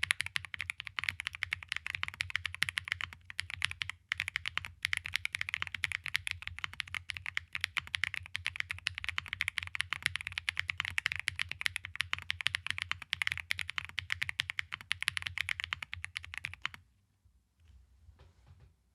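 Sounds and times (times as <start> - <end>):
mechanical keyboard typing: 0.0 - 16.8.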